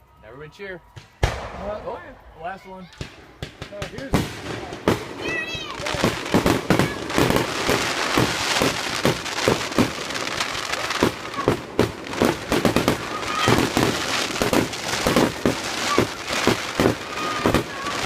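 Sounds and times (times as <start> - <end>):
fireworks crackling: 0.0 - 18.0
fireworks booming: 0.9 - 18.0.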